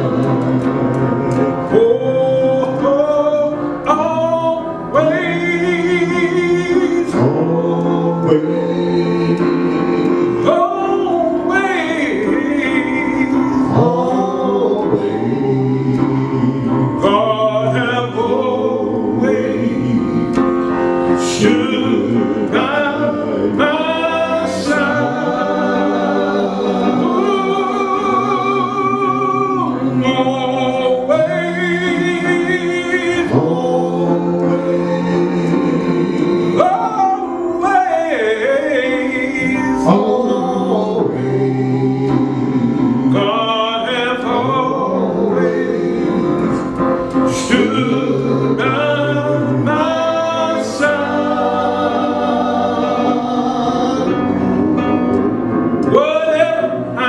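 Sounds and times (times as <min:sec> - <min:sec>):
man singing gospel: 0:00.0 - 0:57.0
sustained instrumental accompaniment: 0:00.0 - 0:57.0.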